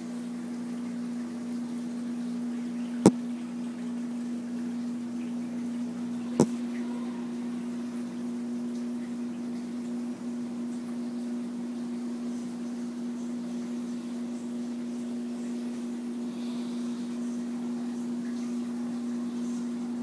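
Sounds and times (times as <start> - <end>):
steady motor hum: 0.0 - 20.0.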